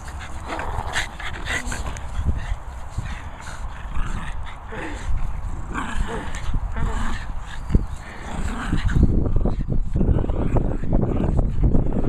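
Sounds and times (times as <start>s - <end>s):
dogs growling while playing: 0.0s - 12.0s.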